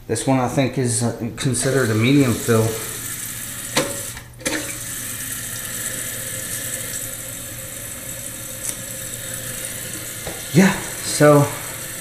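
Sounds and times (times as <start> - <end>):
water running into toilet tank: 1.4 - 12.0.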